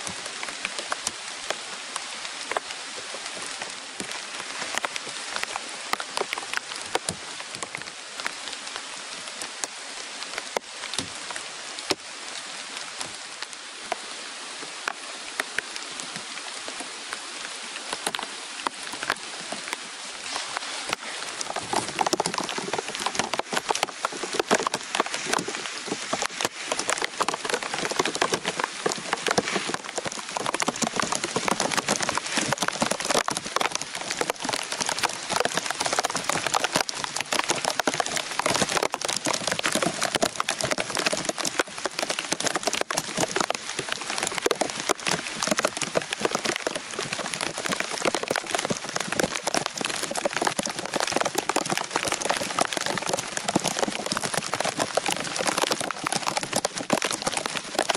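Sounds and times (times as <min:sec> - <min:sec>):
heavy rain on leaves: 0:00.0 - 0:57.9.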